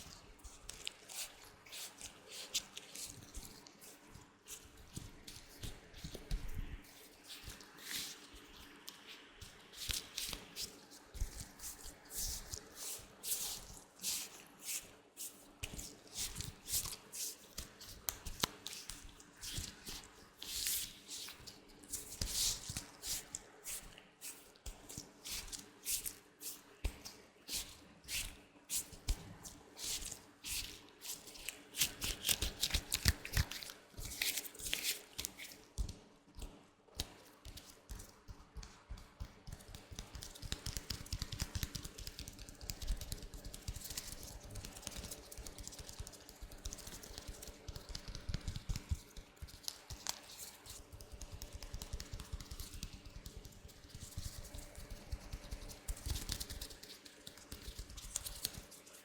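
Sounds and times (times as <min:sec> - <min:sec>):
latex gloves rubbing and crinkling: 0:00.0 - 0:36.0, 0:37.1 - 0:59.0.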